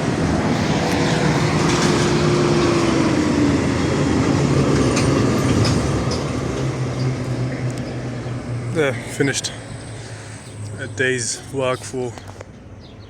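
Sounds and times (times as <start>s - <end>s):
large engine running with whine: 0.0s - 13.0s.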